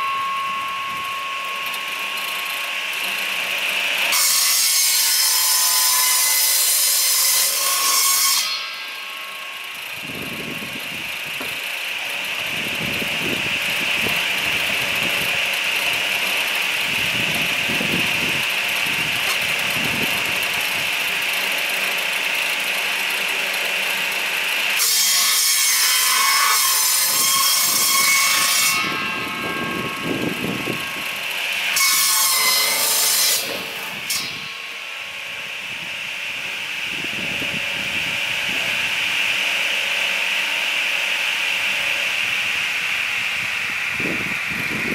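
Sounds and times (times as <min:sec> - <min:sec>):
saw cutting through log: 0:00.0 - 0:44.9
firewood splitter machine running: 0:00.2 - 0:07.2, 0:08.8 - 0:26.1, 0:26.8 - 0:44.9.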